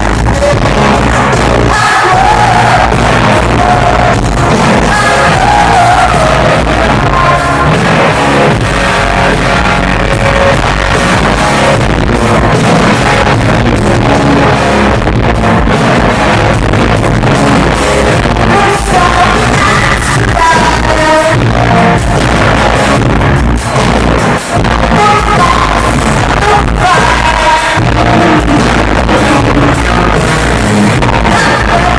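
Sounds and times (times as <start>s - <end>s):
loud rock music with vocals: 0.0s - 31.9s.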